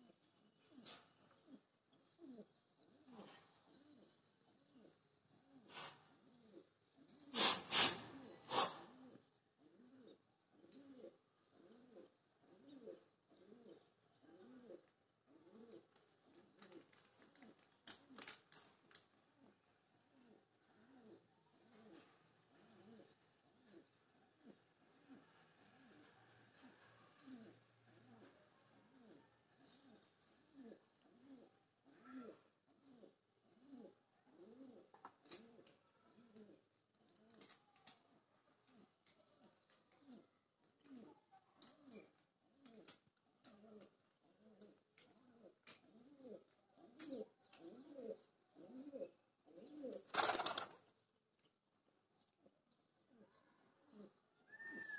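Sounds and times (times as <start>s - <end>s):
pigeon cooing: 0.0s - 16.8s, 19.4s - 37.6s, 38.6s - 50.8s, 53.1s - 54.9s.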